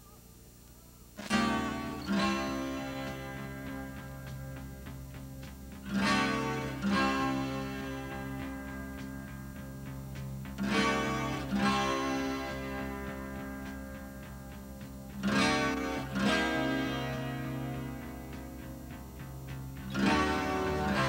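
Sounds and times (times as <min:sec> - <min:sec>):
guitar chords strummed: 0:01.2 - 0:21.0
picked guitar notes: 0:01.2 - 0:21.0.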